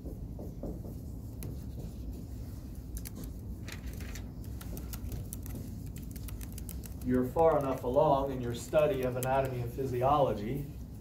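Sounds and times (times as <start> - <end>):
low room hum: 0.0 - 11.0
light clicks and scratches: 0.8 - 10.2.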